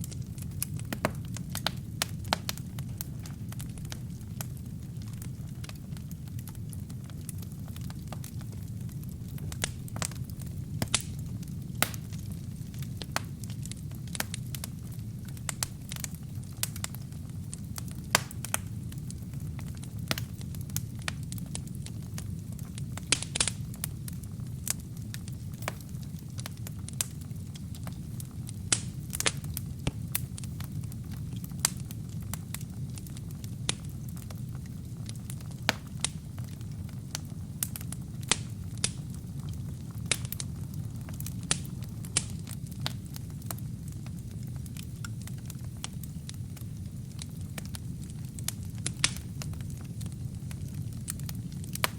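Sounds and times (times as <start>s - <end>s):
burning logs crackling and popping: 0.0s - 51.9s
low rumble of flames: 0.0s - 51.9s.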